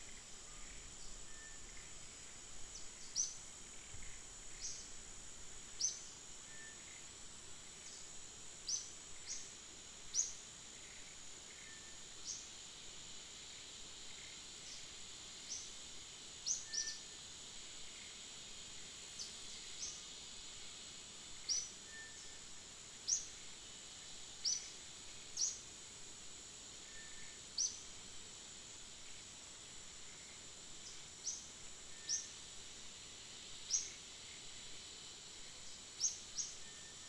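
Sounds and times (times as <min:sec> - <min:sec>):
insect drone: 0:00.0 - 0:37.0.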